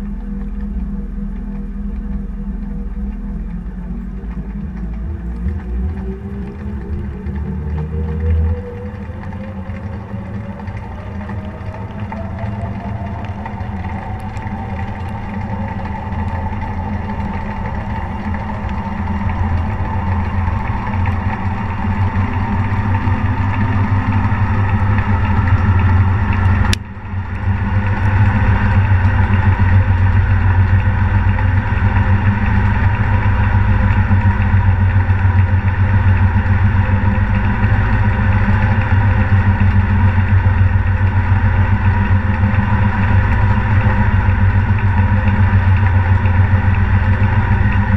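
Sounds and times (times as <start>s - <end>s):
washing machine drum humming: 0.0s - 47.9s.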